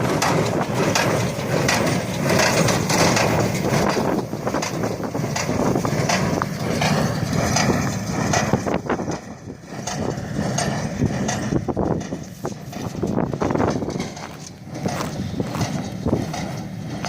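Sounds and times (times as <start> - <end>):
baler machinery rumble: 0.0 - 17.0
baling mechanism knocks and clatter: 0.0 - 17.0.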